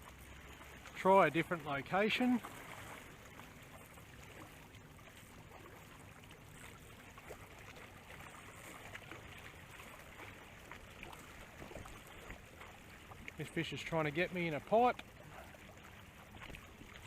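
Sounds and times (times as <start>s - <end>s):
water washing along shoreline: 0.0s - 17.0s.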